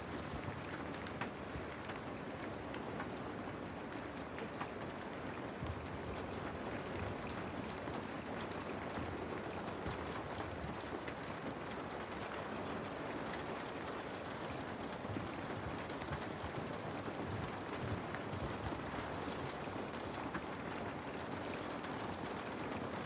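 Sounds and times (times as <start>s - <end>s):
rain on a window: 0.0s - 23.0s.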